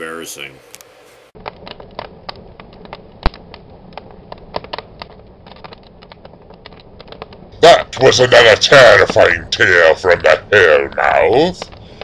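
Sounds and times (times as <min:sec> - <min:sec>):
low steady hum: 0:00.0 - 0:12.0
sharp clicks and crackles: 0:00.7 - 0:12.0.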